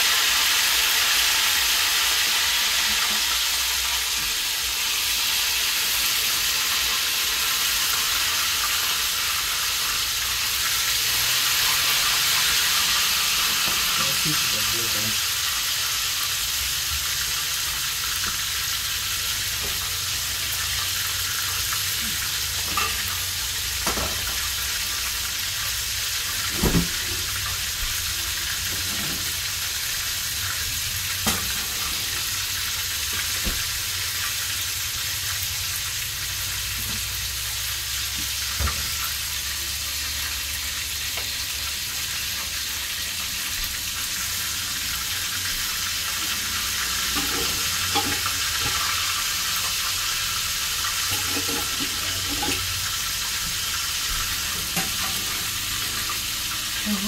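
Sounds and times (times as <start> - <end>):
chicken sizzling in a pan: 0.0 - 57.0.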